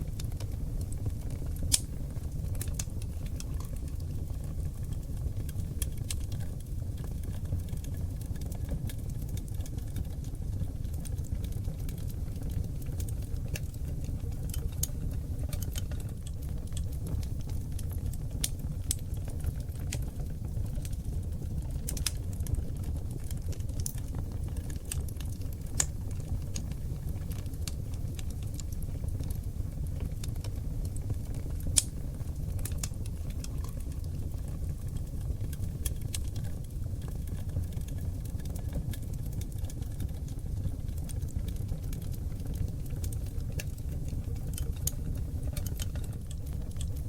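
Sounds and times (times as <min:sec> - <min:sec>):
low fire rumble: 0:00.0 - 0:47.0
wood fire crackling and popping: 0:00.0 - 0:47.0.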